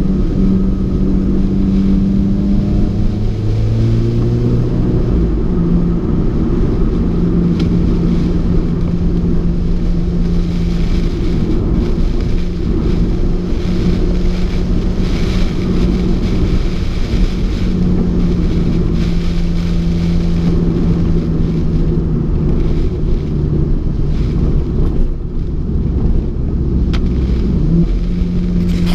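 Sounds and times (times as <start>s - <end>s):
car engine running: 0.0s - 28.9s
tyres hissing on wet road: 0.0s - 28.9s.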